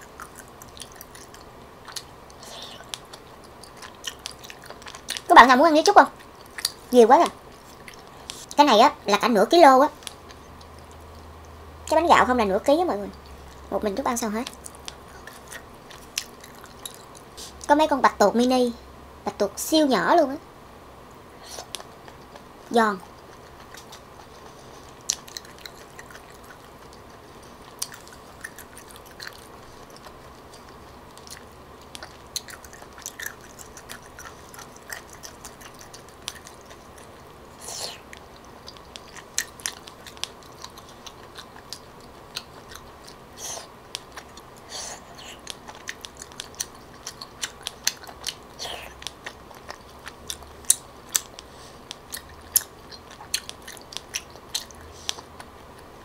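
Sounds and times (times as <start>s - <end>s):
person chewing with wet smacks: 0.0s - 9.1s, 9.9s - 12.0s, 12.6s - 17.7s, 21.4s - 56.0s
faint steady hum: 0.0s - 56.0s.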